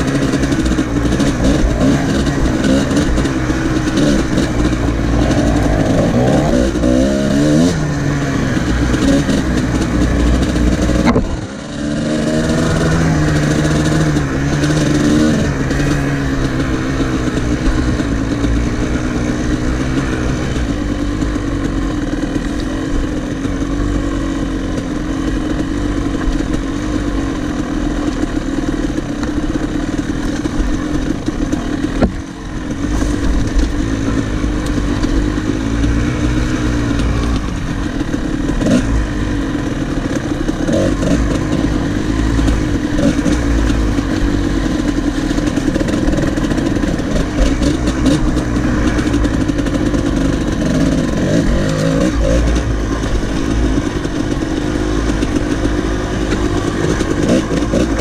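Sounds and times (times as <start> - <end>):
two-stroke dirt bike engine revving: 0.0 - 58.0.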